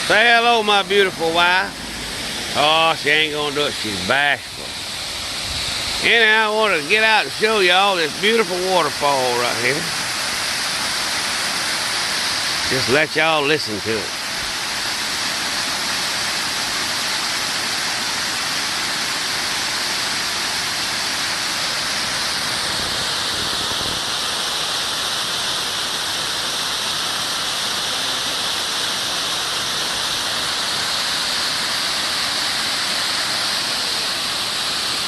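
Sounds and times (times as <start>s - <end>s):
waterfall splashing onto rocks: 0.0s - 35.0s.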